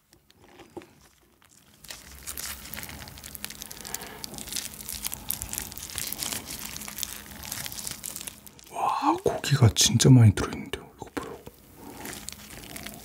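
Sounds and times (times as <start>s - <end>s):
dumpling wrapper tearing: 0.0s - 9.9s, 11.0s - 13.0s
plastic gloves crinkling: 0.0s - 13.0s.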